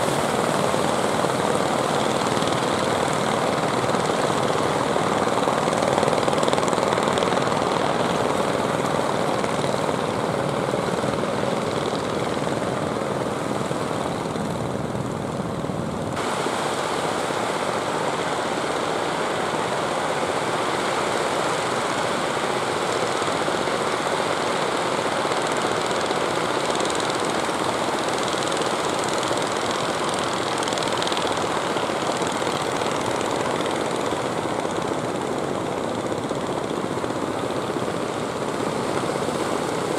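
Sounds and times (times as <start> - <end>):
boat engines running: 0.0 - 39.9
waves and surf: 0.0 - 39.9.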